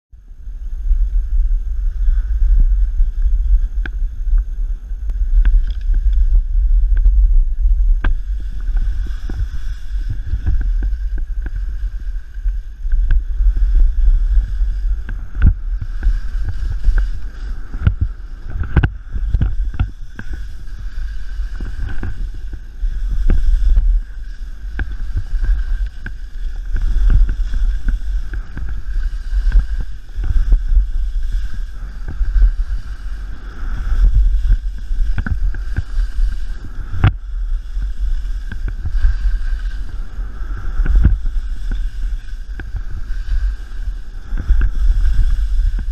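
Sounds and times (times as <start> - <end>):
wind buffeting microphone: 0.1 - 45.9
skis scraping over snow: 0.3 - 45.9.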